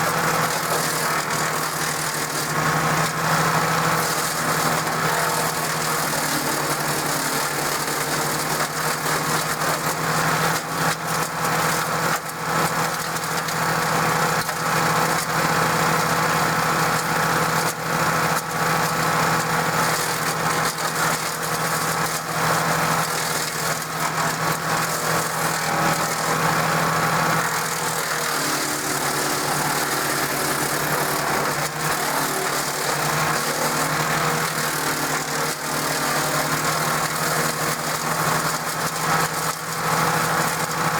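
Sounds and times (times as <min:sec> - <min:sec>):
wood chipper running: 0:00.0 - 0:40.9.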